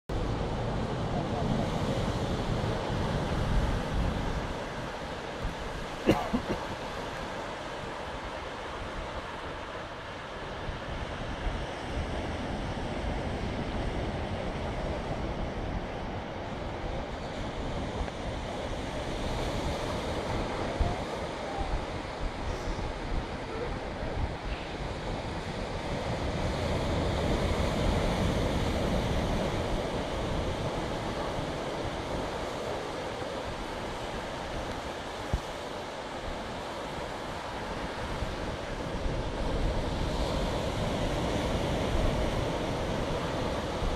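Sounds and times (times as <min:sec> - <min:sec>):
surf washing onto beach: 0:00.1 - 0:43.9
wind buffeting microphone: 0:00.1 - 0:43.9.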